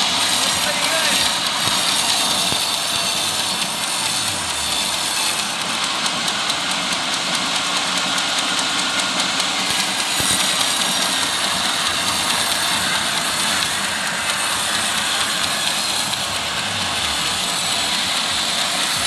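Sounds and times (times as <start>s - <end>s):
portable sawmill running: 0.0s - 19.0s.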